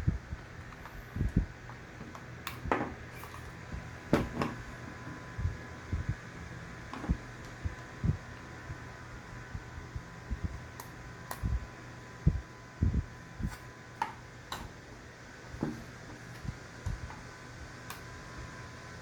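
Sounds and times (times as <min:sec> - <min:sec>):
steady fan-like hum: 0:00.0 - 0:19.0.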